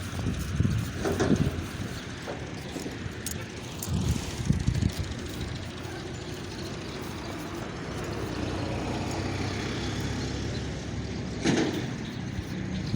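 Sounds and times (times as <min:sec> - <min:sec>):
road traffic rumble: 0:00.0 - 0:12.9.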